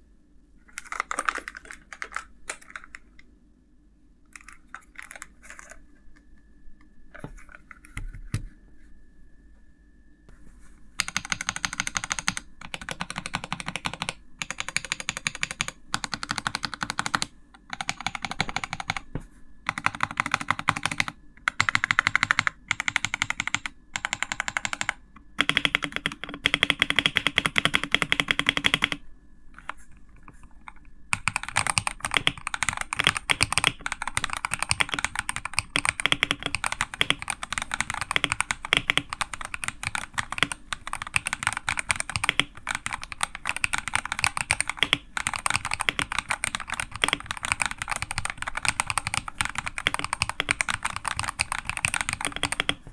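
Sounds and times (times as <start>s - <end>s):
mechanical keyboard typing: 0.7s - 3.2s, 4.3s - 5.8s, 11.0s - 19.1s, 19.7s - 29.0s, 30.7s - 52.9s.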